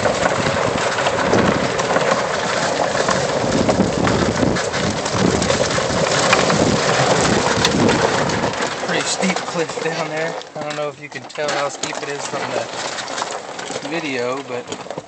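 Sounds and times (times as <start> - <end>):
tires crunching leaves and gravel: 0.0 - 15.0.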